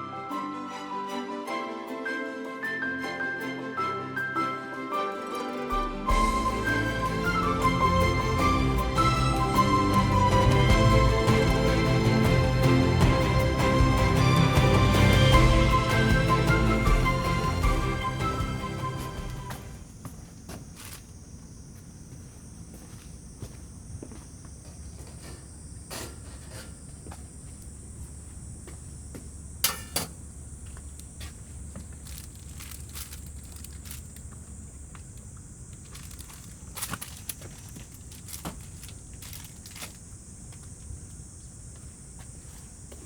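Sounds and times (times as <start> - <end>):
insects chirring: 1.6 - 43.0.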